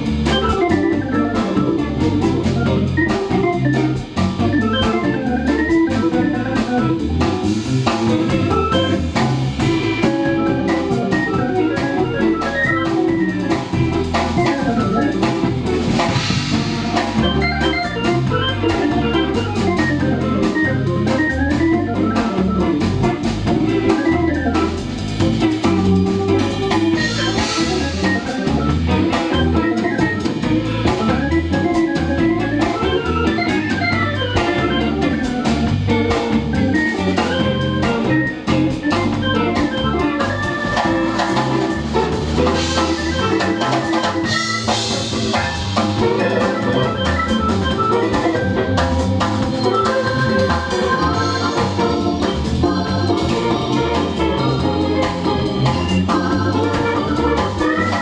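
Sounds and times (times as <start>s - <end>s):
drum kit: 0.0s - 58.0s
electric bass: 0.0s - 58.0s
electric guitar: 0.0s - 58.0s
keyboard: 0.0s - 58.0s.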